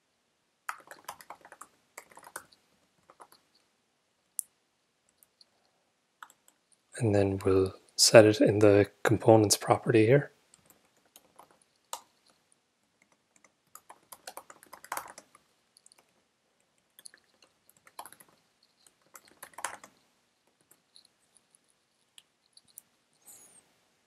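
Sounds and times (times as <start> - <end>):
faint typing on keyboard: 0.6 - 23.7.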